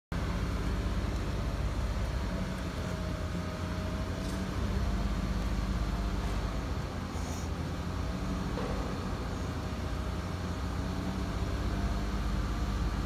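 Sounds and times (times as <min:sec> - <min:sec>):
car engine hum from inside cabin: 0:00.2 - 0:13.0.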